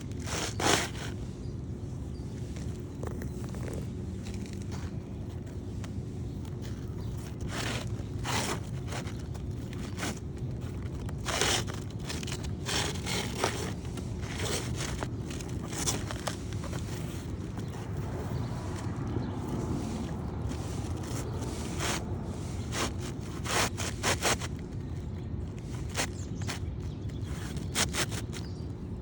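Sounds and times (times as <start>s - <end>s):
shingles being scraped: 0.1s - 1.4s, 4.6s - 28.7s.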